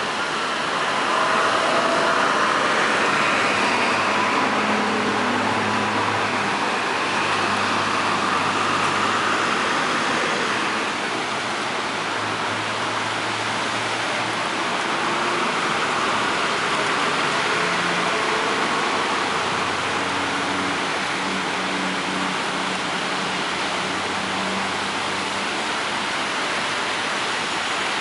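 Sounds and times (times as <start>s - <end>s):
steady rain falling: 0.0s - 28.0s
traffic hiss on wet street: 0.0s - 28.0s
vehicle engine hum: 0.0s - 28.0s.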